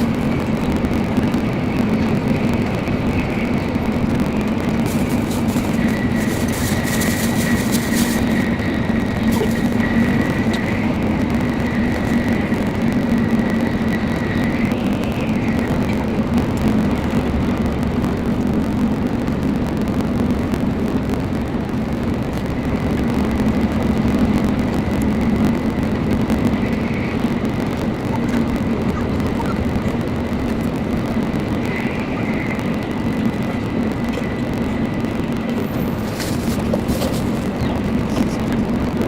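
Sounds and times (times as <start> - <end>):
train cabin rumble: 0.0 - 39.0.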